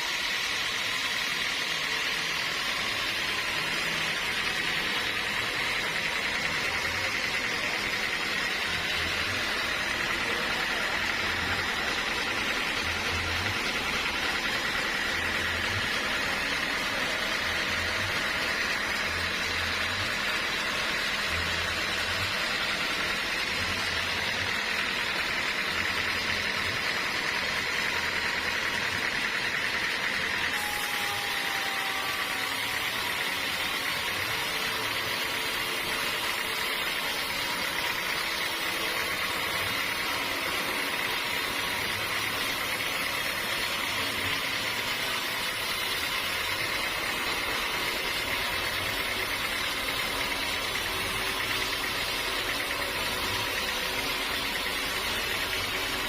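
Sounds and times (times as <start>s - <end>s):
high machine whine: 0.0s - 56.0s
sawmill machinery din: 0.0s - 56.0s.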